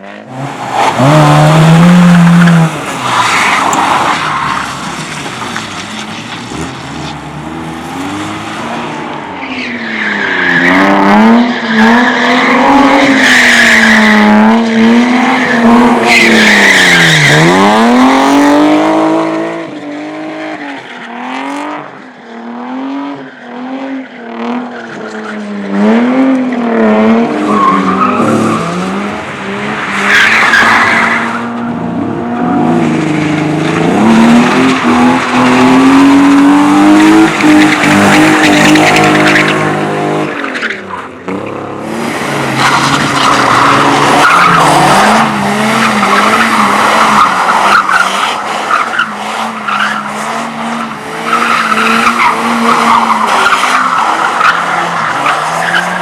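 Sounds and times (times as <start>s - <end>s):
car engine revving: 0.0s - 20.3s, 25.8s - 56.0s.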